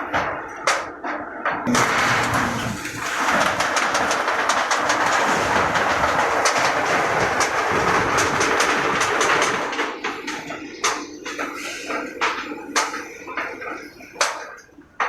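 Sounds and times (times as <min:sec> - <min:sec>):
roll-forming machine clattering: 0:00.0 - 0:15.0.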